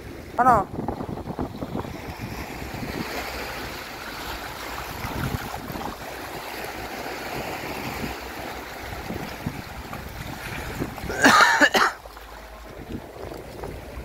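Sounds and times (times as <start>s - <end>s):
waves washing over rocks: 0.0s - 14.0s.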